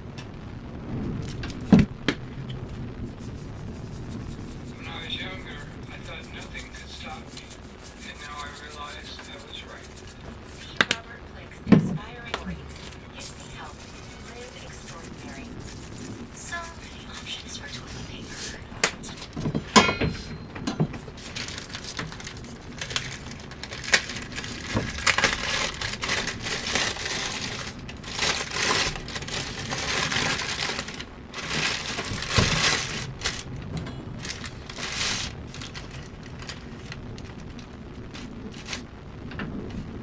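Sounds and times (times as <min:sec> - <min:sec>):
crispbread crunching: 0:02.4 - 0:11.0, 0:12.8 - 0:39.1.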